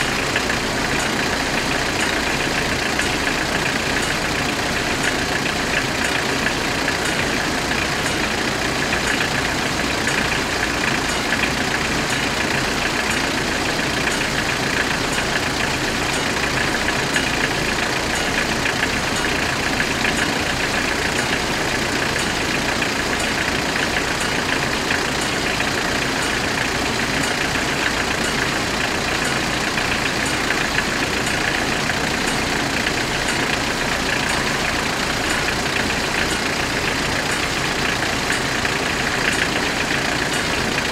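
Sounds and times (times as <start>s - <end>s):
level crossing warning bells: 0.0s - 40.9s
vehicles idling: 0.0s - 40.9s.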